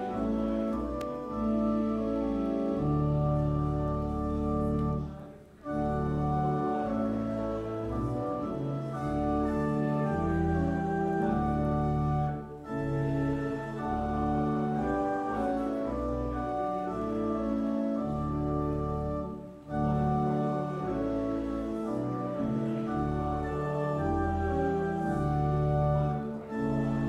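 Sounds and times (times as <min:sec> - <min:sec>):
church organ playing a hymn: 0:00.0 - 0:27.0.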